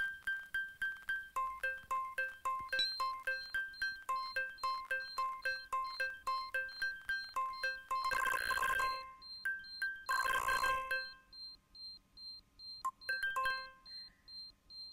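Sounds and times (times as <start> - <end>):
plinking bell-like melody: 0.0 - 11.4, 12.9 - 14.3.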